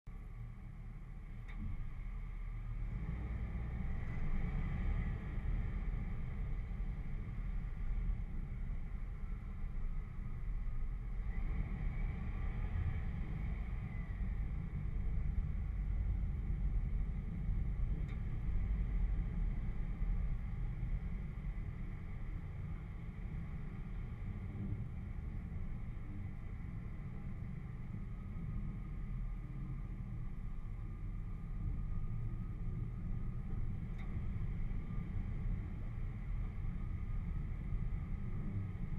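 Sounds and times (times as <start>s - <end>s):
engine and tyre rumble on gravel: 0.1s - 38.9s
faint whine: 0.1s - 38.9s.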